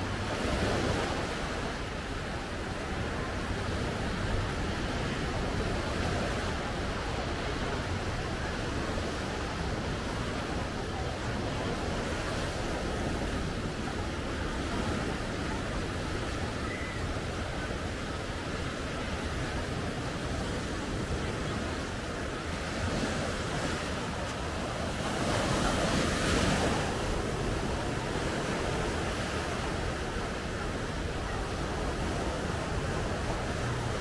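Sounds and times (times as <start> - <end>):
waves washing onto sandy beach: 0.0 - 34.0.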